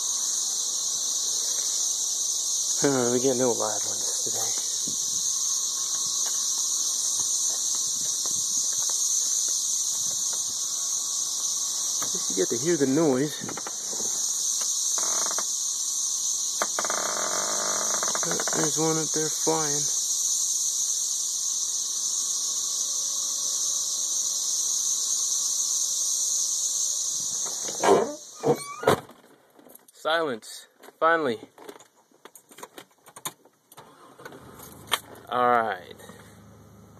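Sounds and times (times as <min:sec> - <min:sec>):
cicadas droning: 0:00.0 - 0:36.9.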